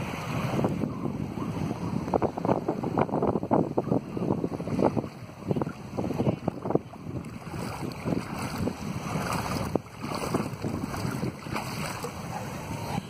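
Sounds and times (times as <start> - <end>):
small waves lapping: 0.0 - 13.0
wind buffeting microphone: 0.0 - 13.0.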